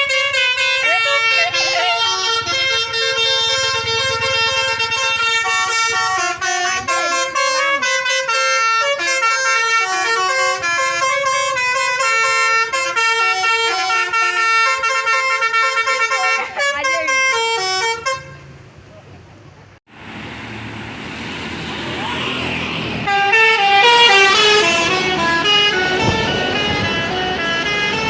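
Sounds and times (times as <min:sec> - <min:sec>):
bus horn playing a tune: 0:00.0 - 0:18.6, 0:23.1 - 0:28.0.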